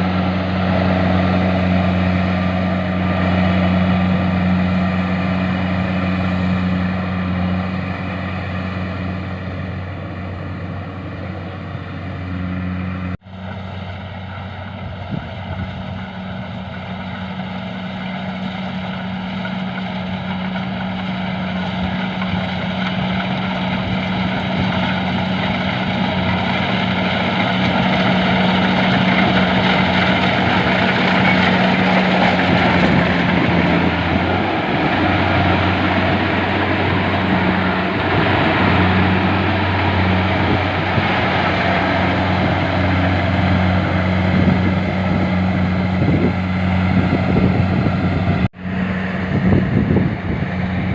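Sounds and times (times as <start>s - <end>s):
harvester engine humming: 0.0s - 50.9s.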